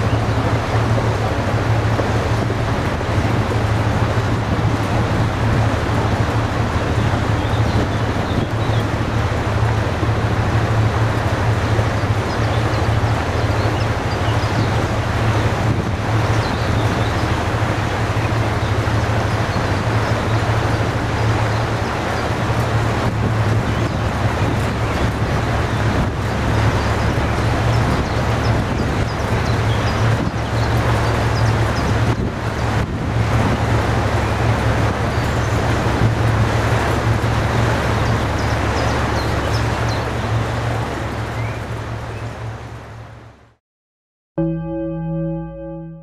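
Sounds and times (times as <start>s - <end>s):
barge diesel engine rumble: 0.0s - 43.5s.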